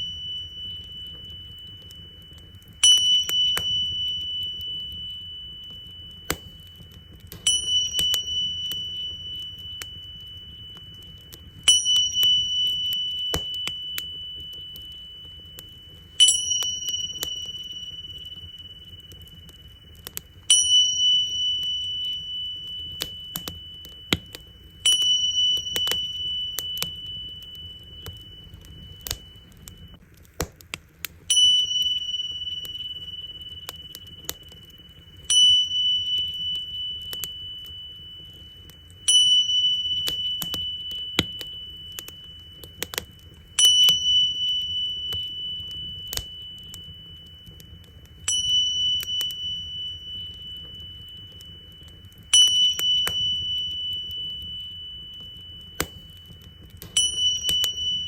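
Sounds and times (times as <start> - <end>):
small cymbals ringing: 0.0 - 30.0, 31.2 - 58.0
wood fire crackling: 0.0 - 58.0.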